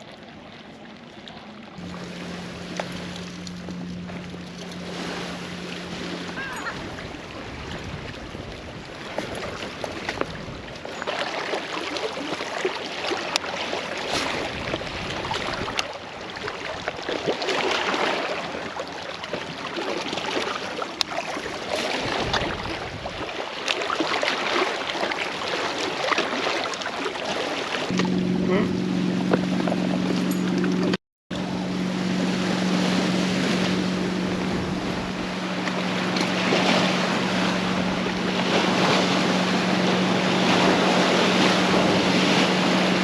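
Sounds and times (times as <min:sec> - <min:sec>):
wind: 0:00.0 - 0:43.0.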